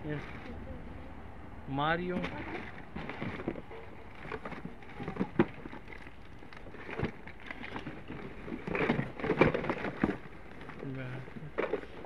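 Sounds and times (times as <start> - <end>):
objects rustling and clattering: 0.0 - 0.6, 2.0 - 12.0.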